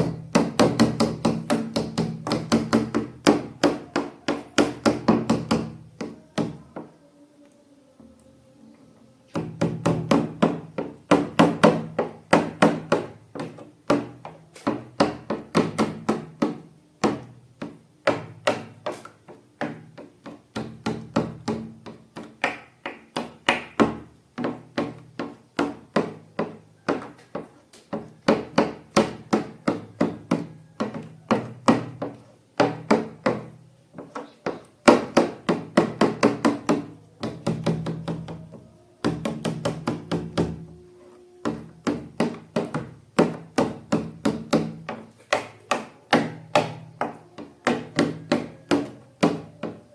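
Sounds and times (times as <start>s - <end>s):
knocking wooden music notes: 9.3s - 49.9s.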